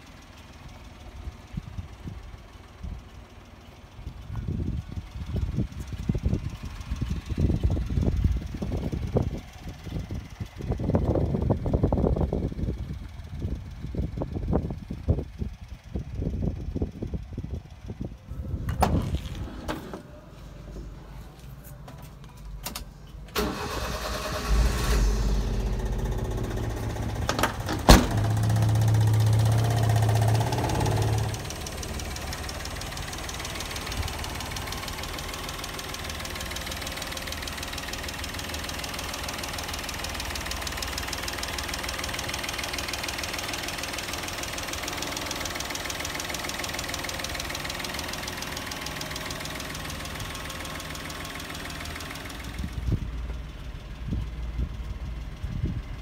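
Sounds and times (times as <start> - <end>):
truck engine starting and idling: 0.0 - 56.0.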